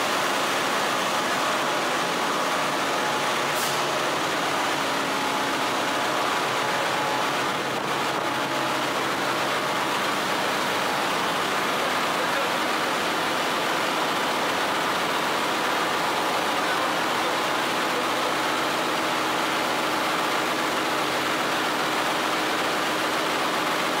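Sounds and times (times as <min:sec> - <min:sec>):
engine room machinery roar: 0:00.0 - 0:24.0.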